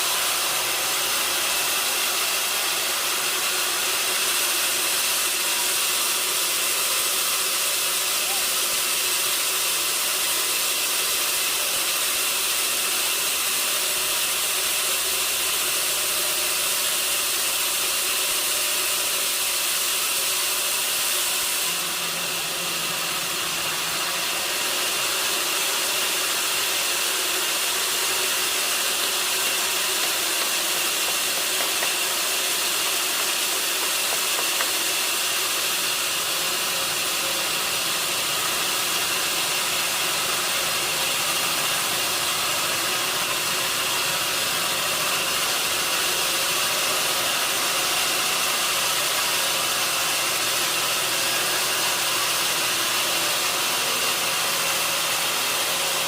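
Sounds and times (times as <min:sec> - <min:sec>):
sawmill machinery hissing: 0:00.0 - 0:56.0.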